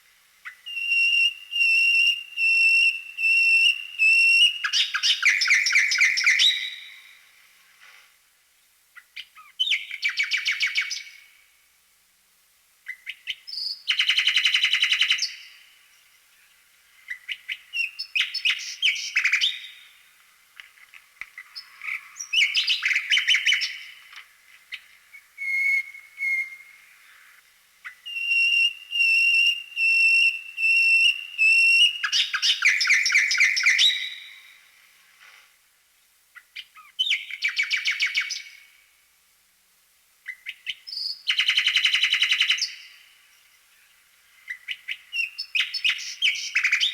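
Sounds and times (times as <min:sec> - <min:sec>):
songbird singing: 0:00.2 - 0:07.4, 0:08.6 - 0:11.6, 0:12.8 - 0:20.3, 0:21.2 - 0:35.1, 0:36.3 - 0:39.0, 0:40.2 - 0:46.9.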